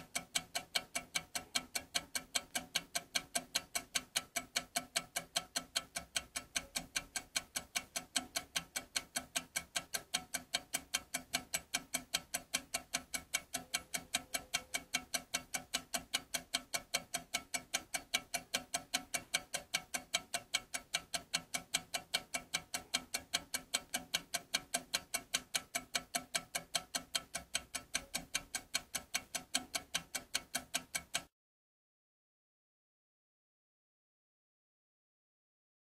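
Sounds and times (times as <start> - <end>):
clock ticking fast: 0.0 - 31.3.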